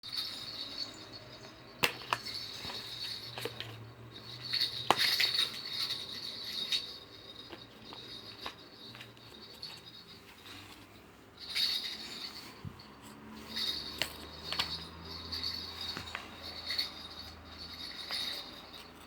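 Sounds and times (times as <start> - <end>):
high rattling rustle: 0.0 - 19.0
toy rings clicking and knocking: 0.0 - 19.0.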